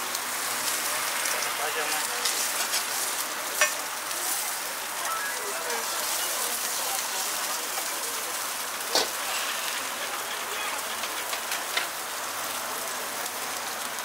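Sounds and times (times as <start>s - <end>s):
batter sizzling in oil: 0.0s - 14.0s.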